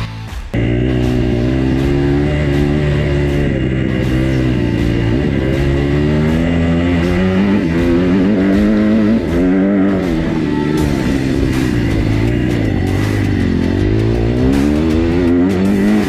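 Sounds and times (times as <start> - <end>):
background music: 0.0 - 16.0
dirt bike engine revving: 0.5 - 16.0.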